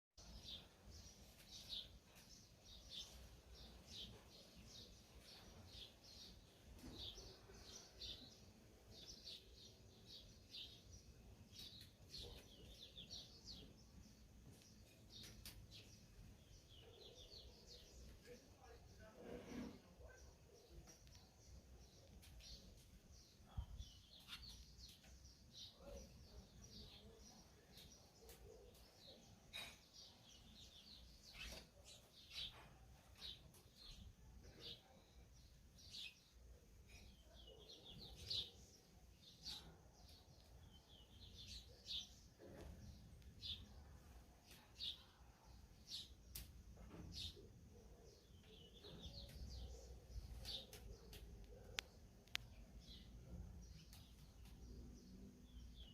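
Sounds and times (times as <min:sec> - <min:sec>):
small birds chirping: 0:00.2 - 0:55.9.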